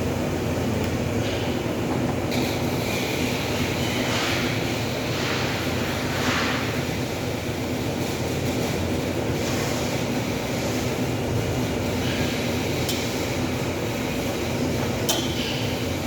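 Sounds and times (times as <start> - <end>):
low mechanical rumble with hum: 0.0 - 16.0.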